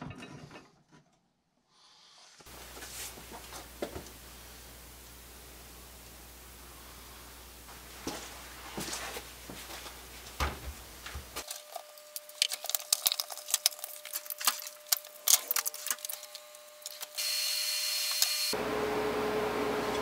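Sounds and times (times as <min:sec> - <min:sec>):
steady hiss and hum: 0:02.4 - 0:19.6.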